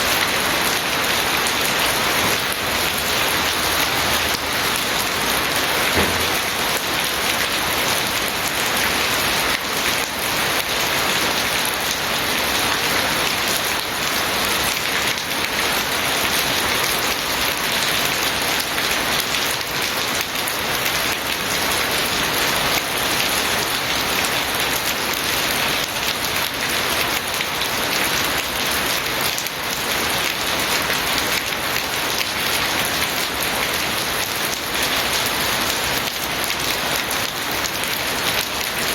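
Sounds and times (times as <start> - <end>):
heavy rain pattering: 0.0 - 38.9.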